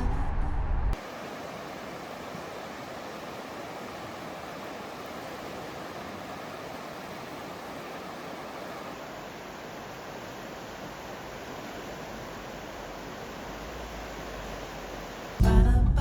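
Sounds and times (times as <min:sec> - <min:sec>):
steady rushing noise: 0:00.0 - 0:15.4.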